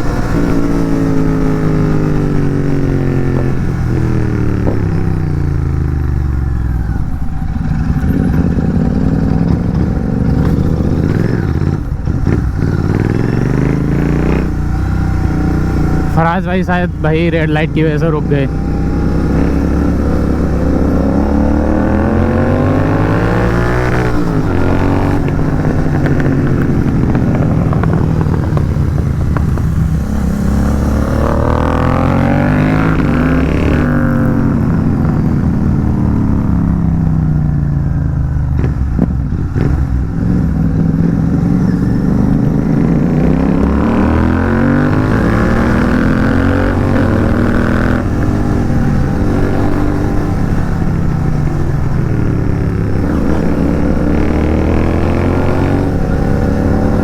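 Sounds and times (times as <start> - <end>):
motorcycle engine revving under load: 0.0 - 57.0.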